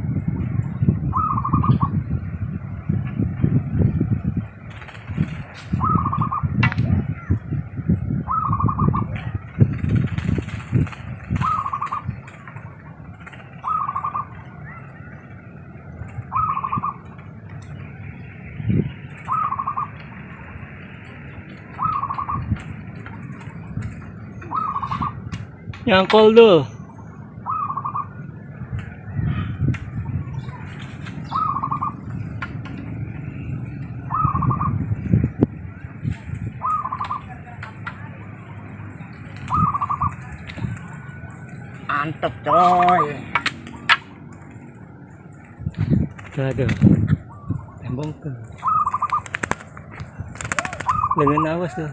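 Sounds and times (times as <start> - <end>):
dove cooing call: 0.0 - 2.4, 3.8 - 46.2, 46.8 - 51.9.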